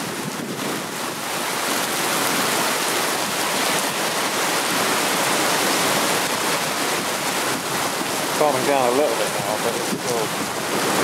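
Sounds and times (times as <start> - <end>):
heavy rain on tarmac: 0.0 - 11.0.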